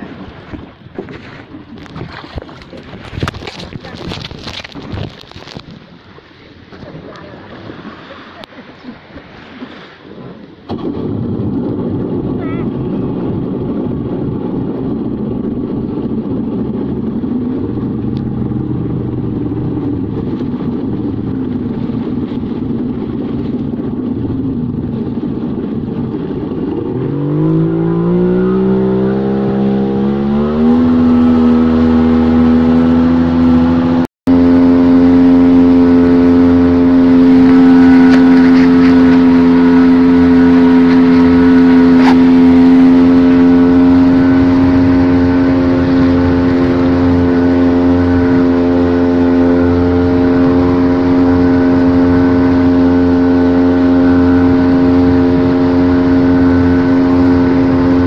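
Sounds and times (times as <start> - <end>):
jet ski engine: 0.0 - 58.0
water noise: 0.0 - 58.0.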